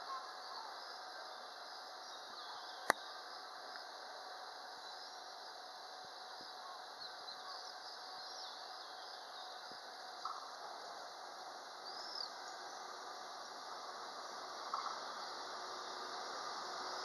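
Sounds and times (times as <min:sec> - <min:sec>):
faint bird chirps: 0:00.0 - 0:03.6, 0:04.4 - 0:13.7, 0:14.6 - 0:15.5.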